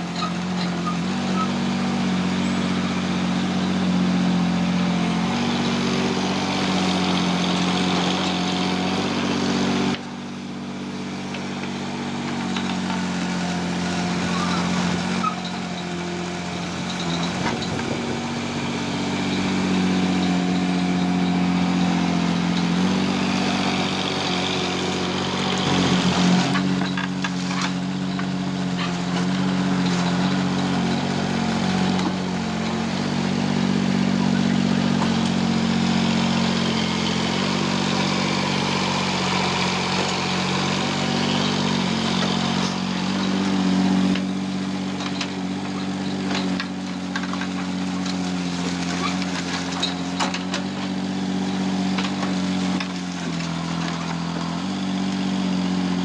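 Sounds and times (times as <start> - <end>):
digger diesel engine running: 0.0 - 56.0.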